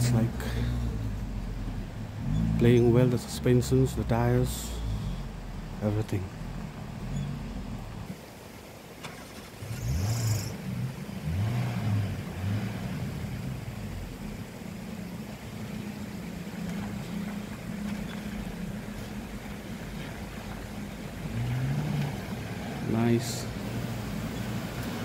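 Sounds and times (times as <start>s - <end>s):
off-road vehicle engine revving: 0.0s - 8.1s, 9.0s - 25.0s.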